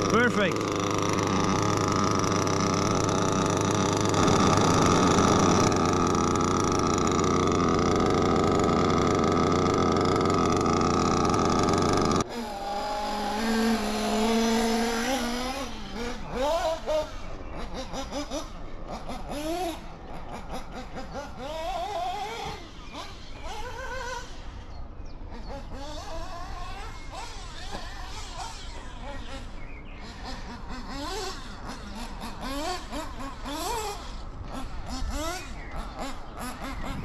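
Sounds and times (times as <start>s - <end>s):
distant engine rising and falling: 0.0s - 37.0s
nitro engine running up close: 0.0s - 37.0s.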